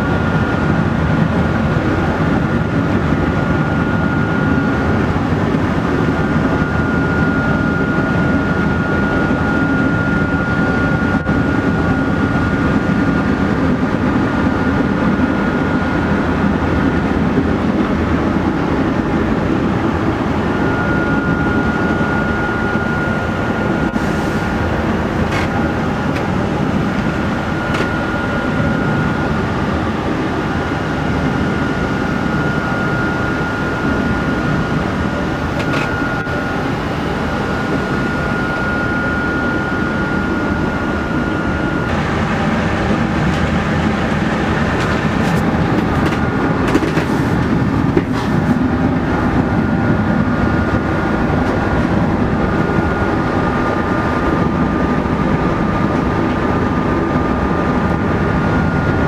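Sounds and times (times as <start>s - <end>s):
thin steady whine: 0.0s - 59.0s.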